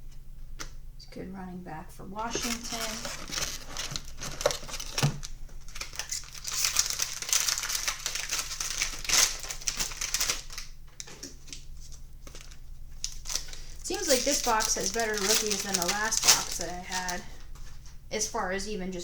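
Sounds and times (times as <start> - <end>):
foil wrapper crinkling: 2.2 - 18.0.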